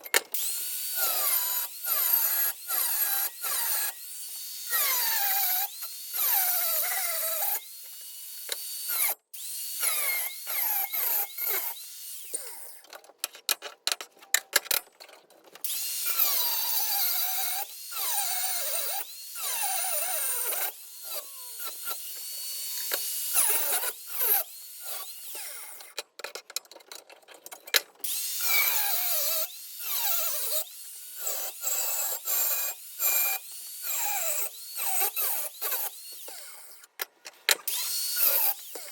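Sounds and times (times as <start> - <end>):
power tool whine cutting steel: 0.4 - 12.9, 15.6 - 26.0, 28.0 - 36.9, 37.7 - 38.9.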